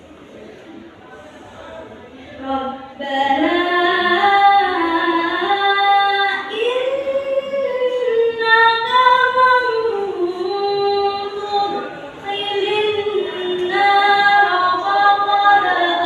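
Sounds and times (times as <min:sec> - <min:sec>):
girl reciting melodically: 0:02.3 - 0:16.0.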